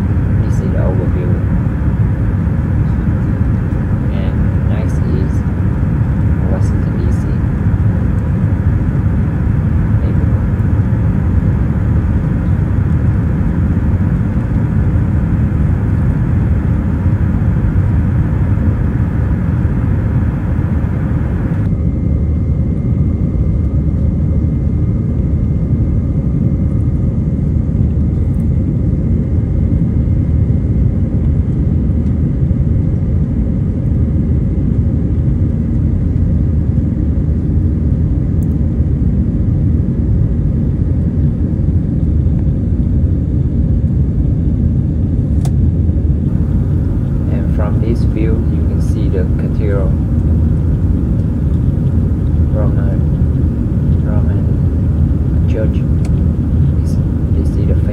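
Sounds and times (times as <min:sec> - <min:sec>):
airliner cabin rumble: 0:00.0 - 0:57.9.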